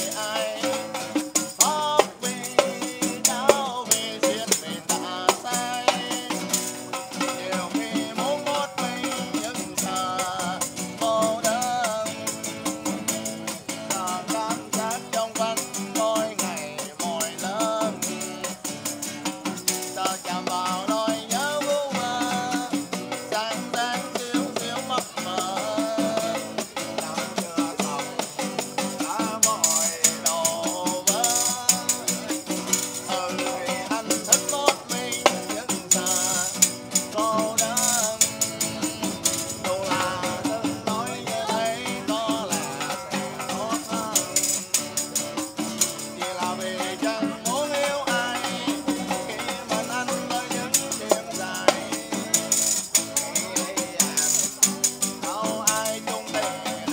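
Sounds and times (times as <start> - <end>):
man singing: 0.0 - 56.9
strummed acoustic guitar: 0.0 - 56.9
tambourine beaten and shaken: 0.0 - 56.9.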